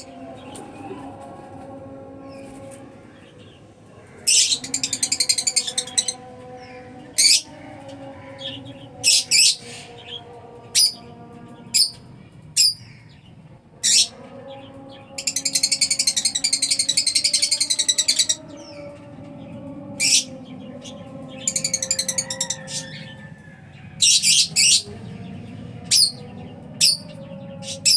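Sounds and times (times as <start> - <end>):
lovebirds chirping and squawking: 4.2 - 11.0, 11.8 - 12.0, 12.6 - 27.9.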